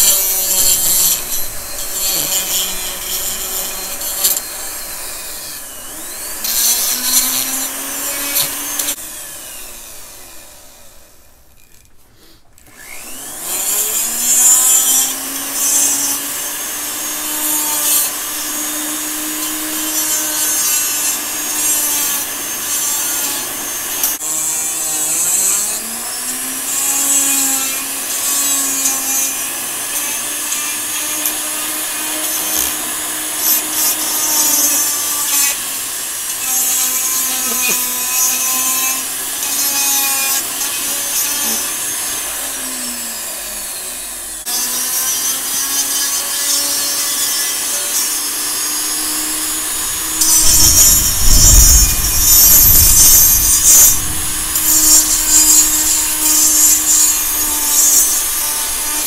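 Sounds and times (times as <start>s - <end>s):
rotary carver grinding wood: 0.0s - 59.0s.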